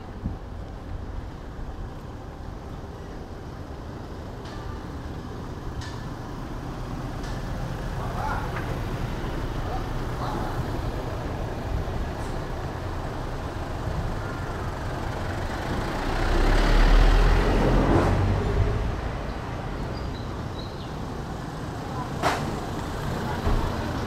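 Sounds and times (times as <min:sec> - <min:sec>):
road traffic: 0:00.0 - 0:24.0
heavy vehicle rumbling past: 0:03.5 - 0:24.0.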